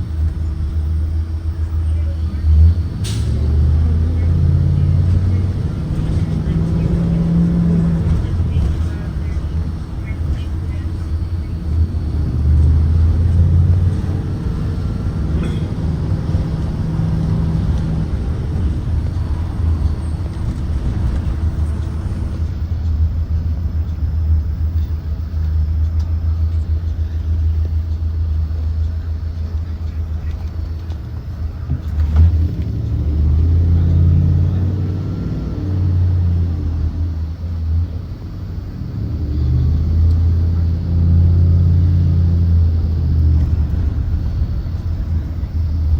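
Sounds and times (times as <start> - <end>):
bus engine and road rumble: 0.0 - 45.9.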